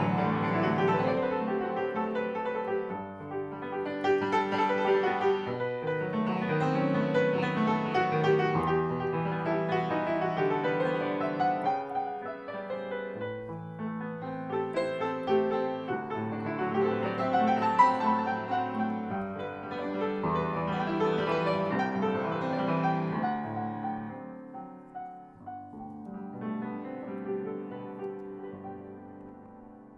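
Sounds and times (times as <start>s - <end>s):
grand piano playing: 0.0s - 29.9s.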